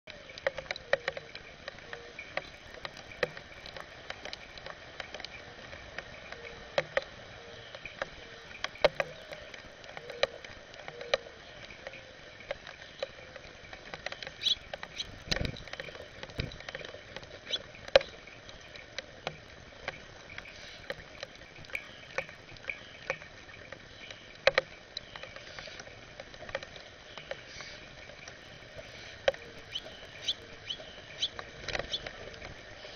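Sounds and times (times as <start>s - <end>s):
raindrops tapping on bird feeder: 0.1s - 32.9s
steady rain hiss: 0.1s - 32.9s.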